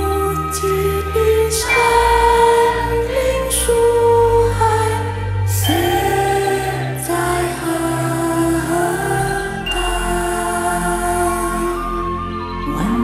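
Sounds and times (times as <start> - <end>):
person singing slow song: 0.0 - 13.0.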